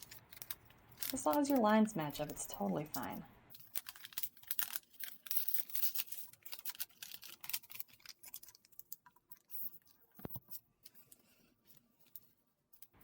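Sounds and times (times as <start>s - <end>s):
paper rustling and crackling: 0.0s - 13.0s.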